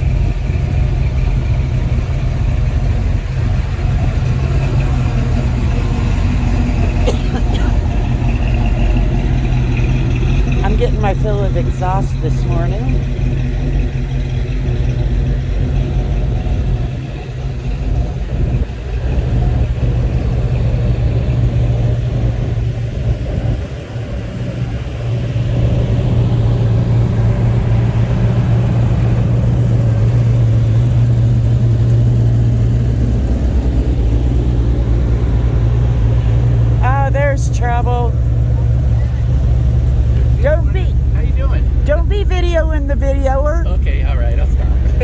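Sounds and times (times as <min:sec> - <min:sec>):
car engines idling: 0:00.0 - 0:45.0.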